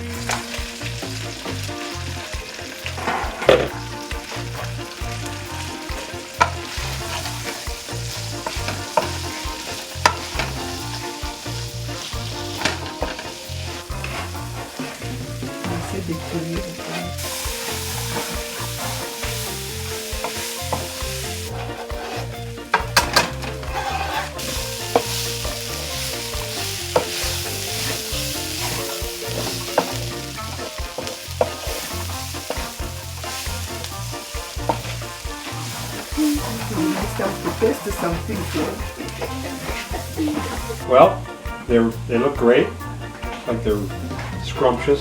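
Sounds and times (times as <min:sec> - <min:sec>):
food sizzling in a pan: 0:00.0 - 0:45.0.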